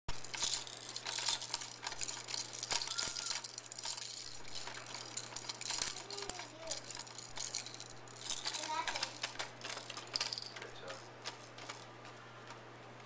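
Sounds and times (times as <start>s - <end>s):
plastic toy clicking and rattling: 0.1s - 12.7s.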